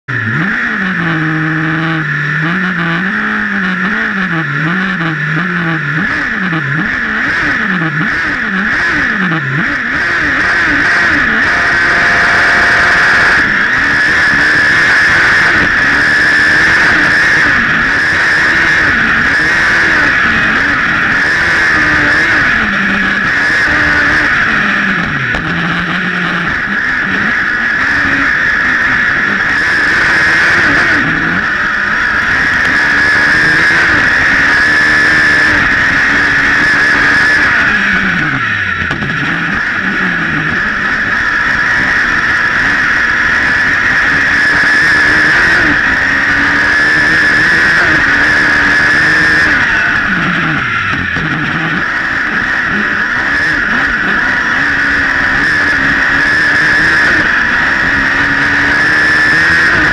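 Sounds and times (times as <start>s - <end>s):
racing buggy engine roaring: 0.0s - 59.9s.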